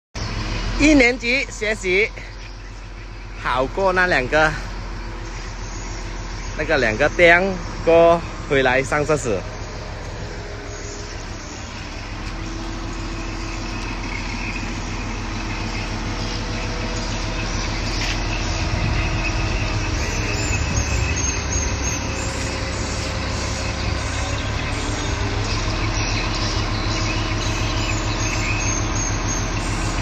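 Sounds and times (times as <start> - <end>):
crane engine running under load: 0.2 - 30.0
whine: 5.3 - 30.0.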